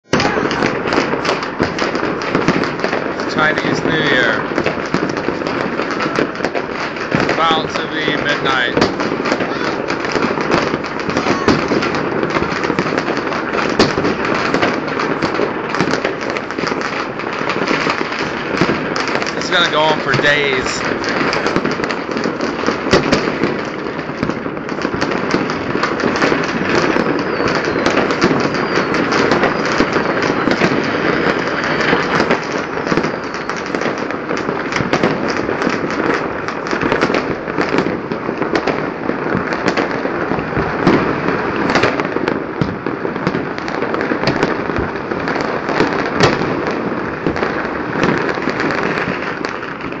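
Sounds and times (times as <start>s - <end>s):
firecrackers crackling: 0.0s - 50.0s
loud firework bangs: 0.0s - 50.0s.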